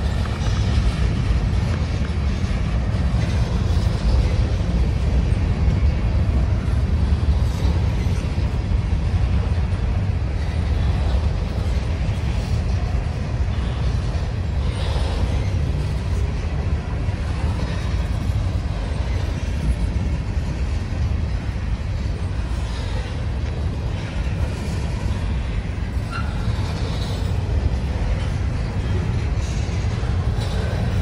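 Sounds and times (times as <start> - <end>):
freight train wheels rumbling on rails: 0.0 - 31.0.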